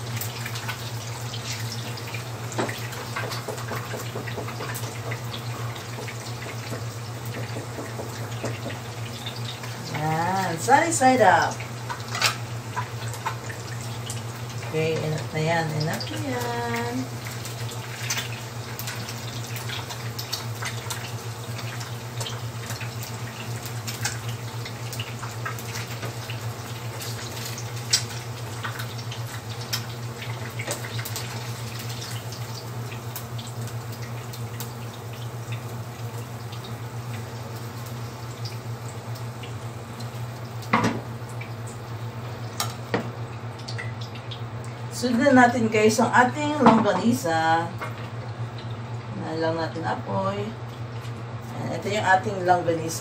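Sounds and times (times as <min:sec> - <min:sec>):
eggs sizzling in oil: 0:00.0 - 0:53.0.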